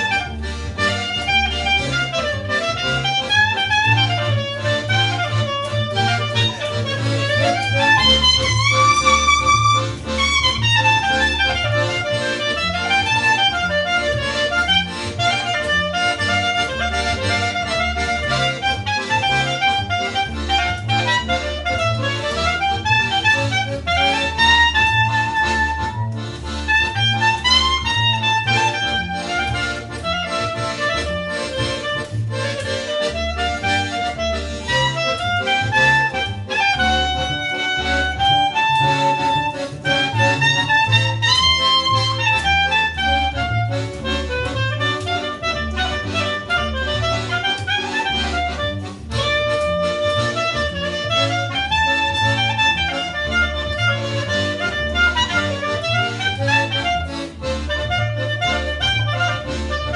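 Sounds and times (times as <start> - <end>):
accordion melody: 0.0 - 59.9
pulsing bass line: 0.0 - 59.9.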